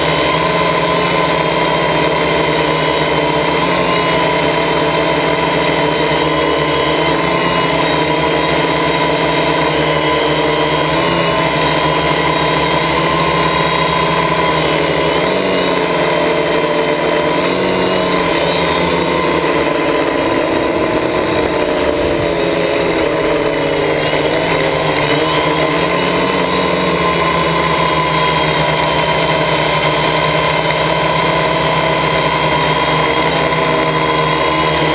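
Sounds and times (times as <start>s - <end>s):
drone propellers whining: 0.0s - 34.9s.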